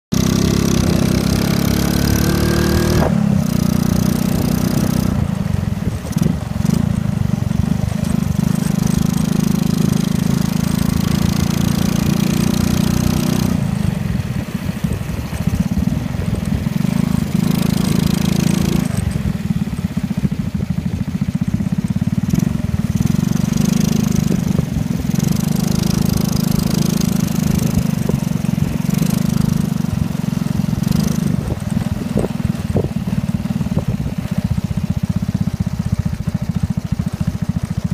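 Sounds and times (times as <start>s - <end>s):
motorcycle engine running: 0.1s - 37.9s.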